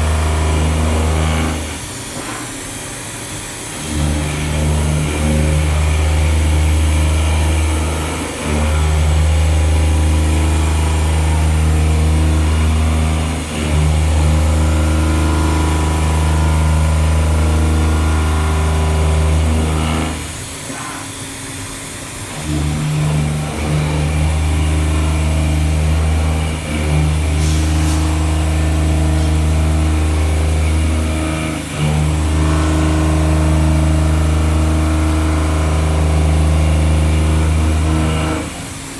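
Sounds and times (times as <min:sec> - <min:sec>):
milling machine drone: 0:03.7 - 0:38.9.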